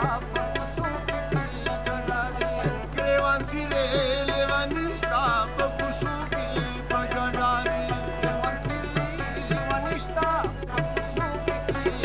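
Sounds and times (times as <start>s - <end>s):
drum beating: 0.0s - 12.0s.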